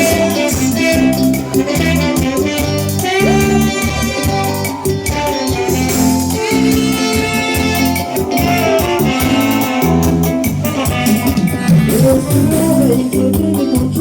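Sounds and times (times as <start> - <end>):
live band playing instrumental: 0.0 - 14.0.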